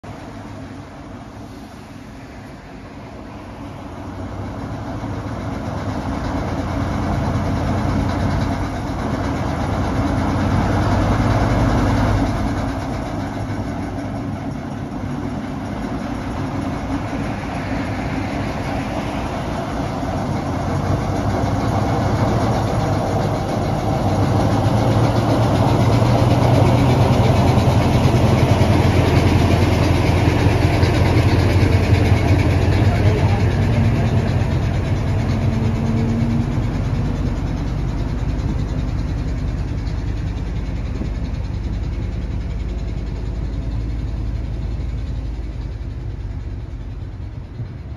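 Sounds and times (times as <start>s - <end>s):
diesel locomotive engine working hard: 0.0s - 47.9s.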